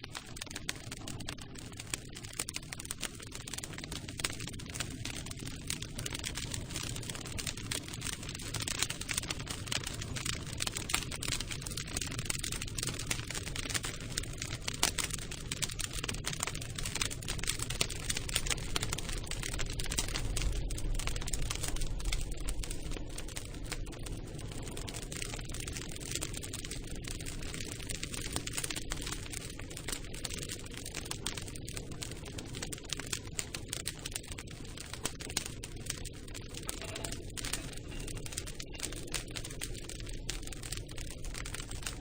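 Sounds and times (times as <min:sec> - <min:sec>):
campfire crackling: 0:00.0 - 0:42.0.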